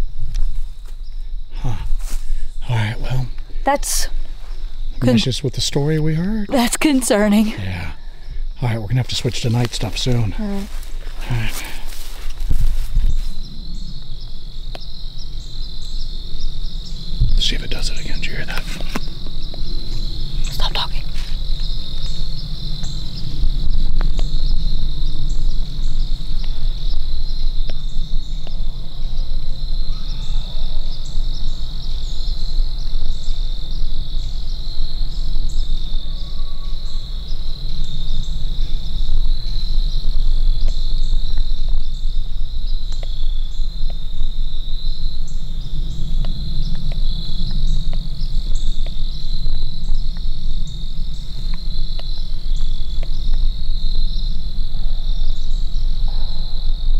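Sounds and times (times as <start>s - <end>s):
constant low rumble: 0.0s - 56.9s
crickets trilling: 0.0s - 56.9s.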